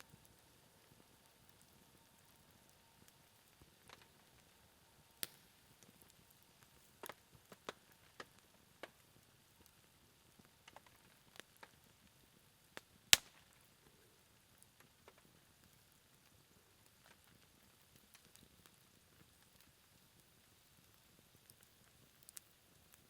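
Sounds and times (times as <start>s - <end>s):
campfire crackling and popping: 0.0s - 23.0s
faint steady hiss: 0.0s - 23.0s.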